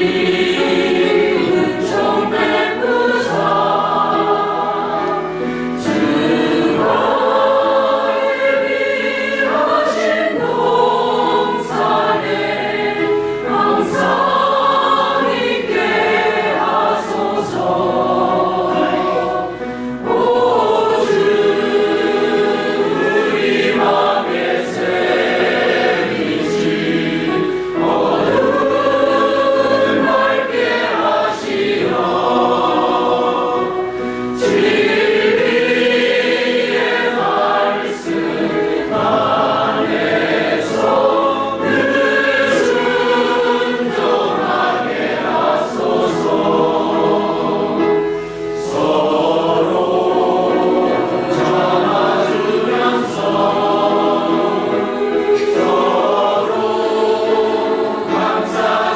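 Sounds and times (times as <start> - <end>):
choir singing a hymn: 0.0 - 58.9.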